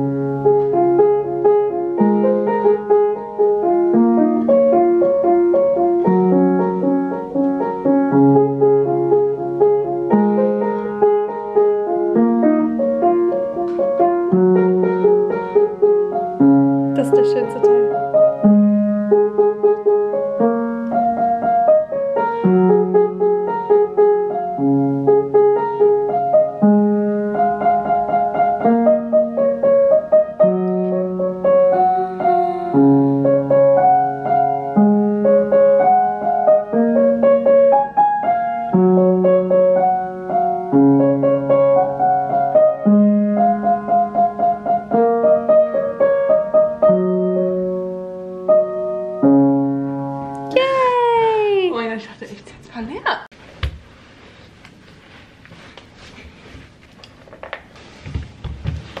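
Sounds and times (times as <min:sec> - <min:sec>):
upright piano playing: 0:00.0 - 0:52.0.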